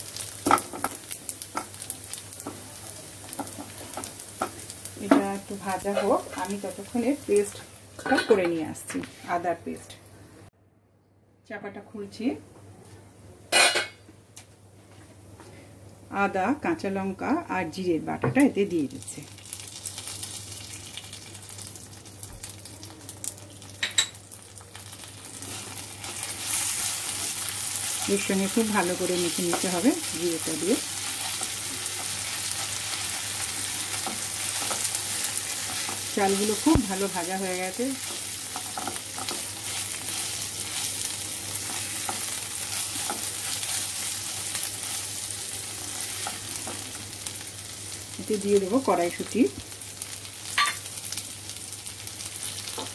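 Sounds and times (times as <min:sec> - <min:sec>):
food sizzling in oil: 0:00.0 - 0:09.9, 0:18.3 - 0:52.9.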